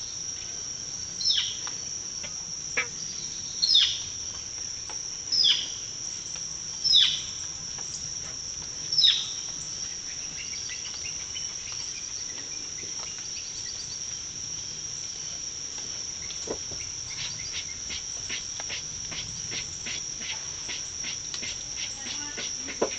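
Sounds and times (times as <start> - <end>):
insect chorus drone: 0.0 - 22.9.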